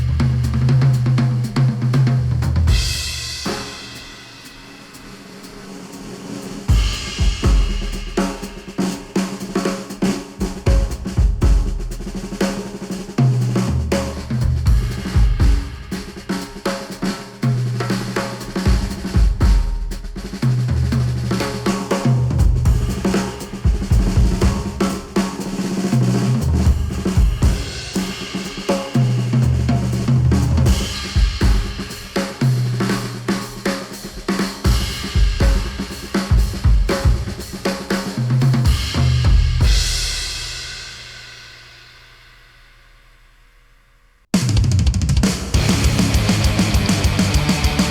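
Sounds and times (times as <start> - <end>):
instrumental music with drums and bass: 0.0 - 43.2, 44.3 - 47.9.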